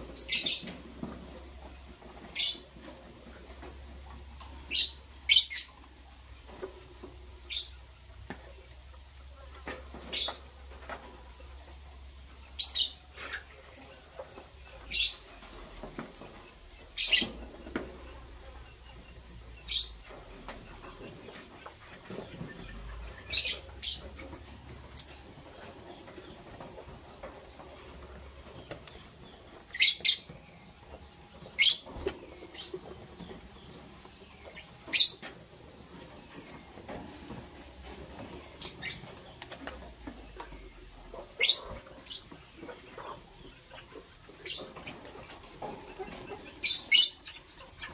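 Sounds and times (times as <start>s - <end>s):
lovebirds chirping: 0.0s - 47.9s.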